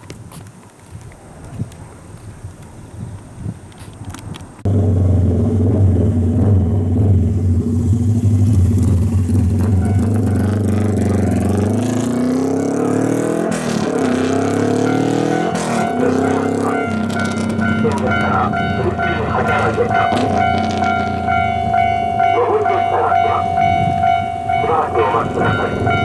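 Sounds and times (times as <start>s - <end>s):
vehicle engine revving: 4.6s - 26.0s.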